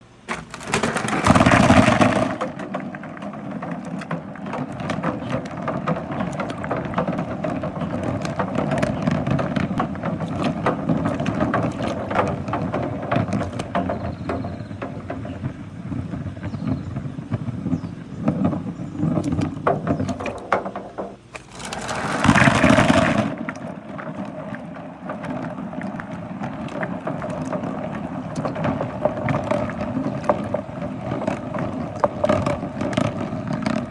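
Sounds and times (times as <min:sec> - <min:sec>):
marbles rolling and clattering: 0:00.4 - 0:33.9.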